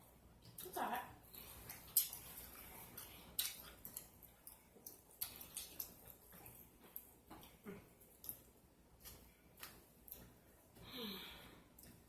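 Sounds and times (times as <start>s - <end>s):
person chewing with mouth open: 0.4s - 12.0s.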